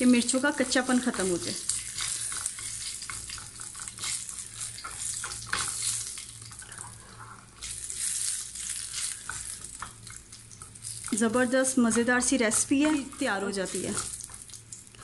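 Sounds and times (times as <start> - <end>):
chillies sizzling in hot oil: 0.0 - 15.0.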